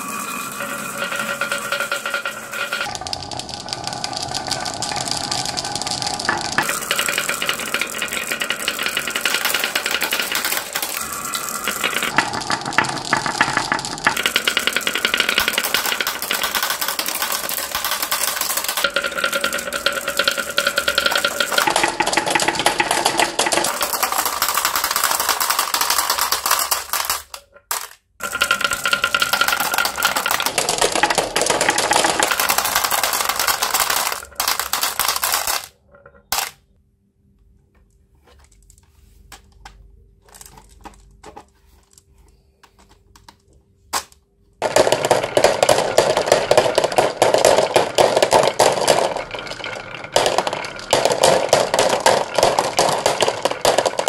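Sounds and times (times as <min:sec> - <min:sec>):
marbles clacking into plastic basket: 0:00.0 - 0:36.8, 0:38.4 - 0:54.0
marbles clattering on wooden tracks: 0:00.0 - 0:36.8, 0:38.3 - 0:54.0
marbles rolling rumble: 0:00.0 - 0:36.8, 0:40.0 - 0:42.1, 0:44.6 - 0:54.0.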